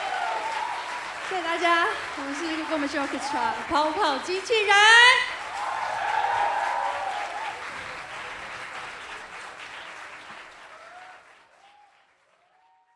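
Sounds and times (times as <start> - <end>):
audience applause: 0.0 - 12.9.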